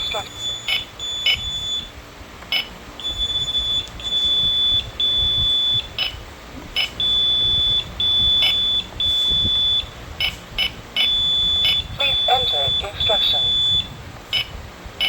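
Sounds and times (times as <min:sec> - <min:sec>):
high-pitched alarm beeps: 0:00.0 - 0:14.6.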